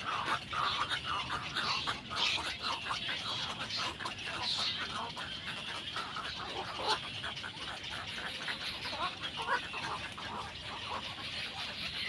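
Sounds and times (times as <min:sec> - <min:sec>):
bird chicks begging calls: 0:00.0 - 0:12.0.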